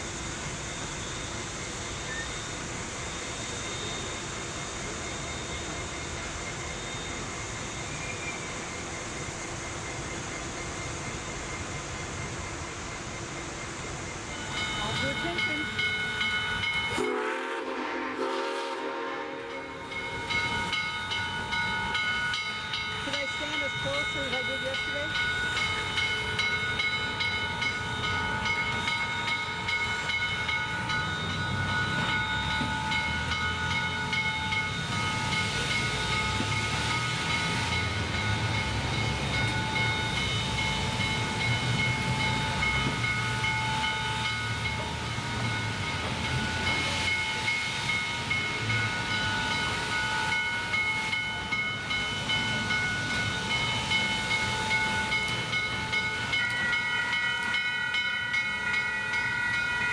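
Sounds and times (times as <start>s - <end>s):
steady high ringing tones: 0.0s - 17.6s, 18.4s - 59.9s
train rumbling: 0.0s - 59.9s.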